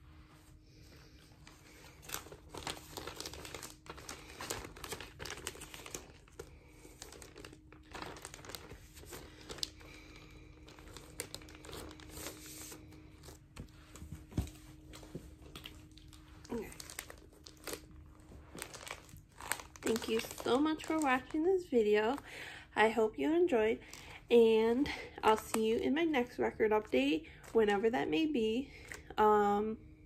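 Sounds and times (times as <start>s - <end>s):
plastic sleeve crinkling and rustling: 0.4s - 29.2s.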